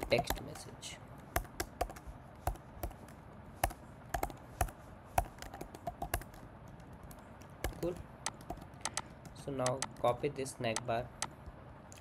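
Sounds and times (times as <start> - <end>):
computer keyboard typing: 0.0 - 0.6, 1.2 - 11.3.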